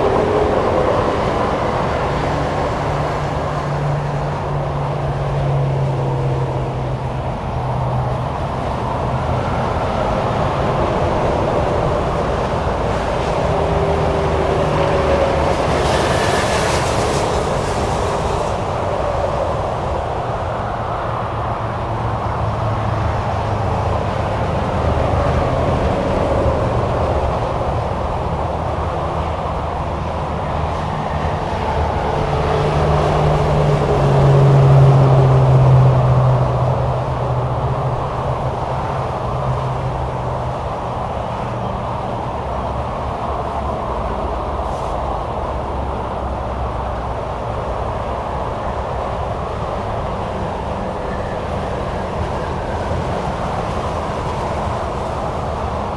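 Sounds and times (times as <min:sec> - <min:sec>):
highway traffic: 0:00.0 - 0:55.9
vehicle engine drone: 0:00.0 - 0:55.9.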